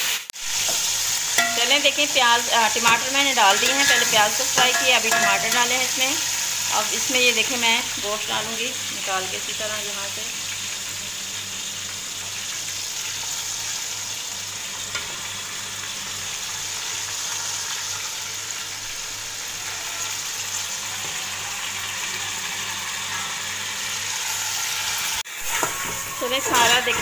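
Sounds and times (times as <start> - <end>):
onions frying in oil: 0.0 - 27.0.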